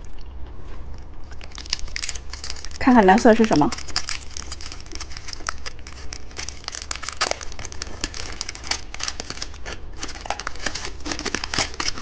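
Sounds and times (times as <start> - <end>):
plastic wrapper crinkling: 0.9 - 12.0.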